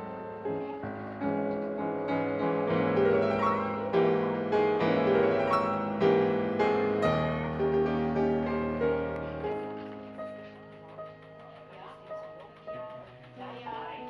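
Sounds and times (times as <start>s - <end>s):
slow piano music: 0.0s - 13.4s.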